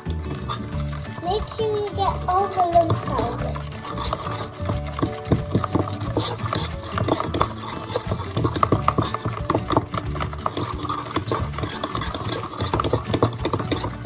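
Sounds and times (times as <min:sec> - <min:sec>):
spoons stirring thick mixture: 0:00.0 - 0:14.0.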